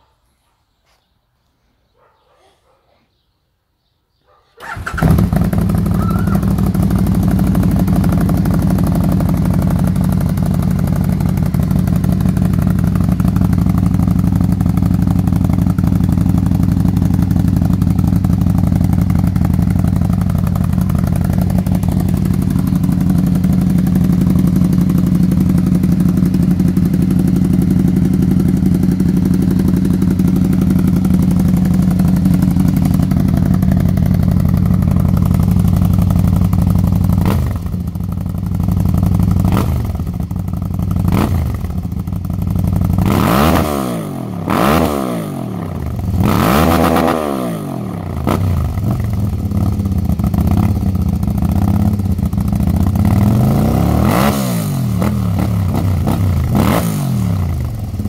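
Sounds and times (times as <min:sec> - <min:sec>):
motorcycle engine starting and idling: 0:04.6 - 0:58.0.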